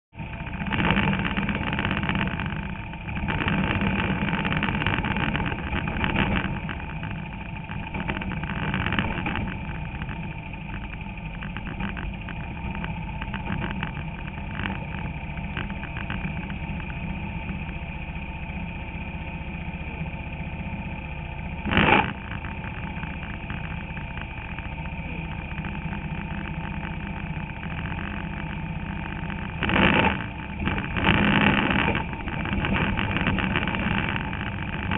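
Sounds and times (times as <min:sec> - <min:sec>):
race car engine revving: 0:00.2 - 0:18.4, 0:19.6 - 0:34.9
loud engine burst: 0:00.4 - 0:16.9, 0:21.6 - 0:34.9.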